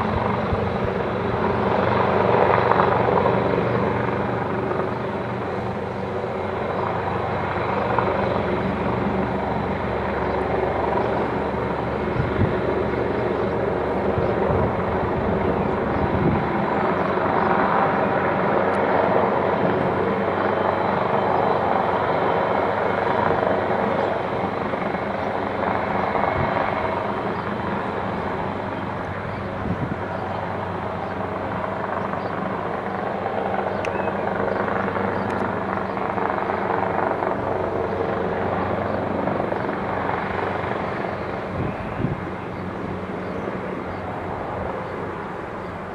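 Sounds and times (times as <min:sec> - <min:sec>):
helicopter hovering: 0:00.0 - 0:45.9.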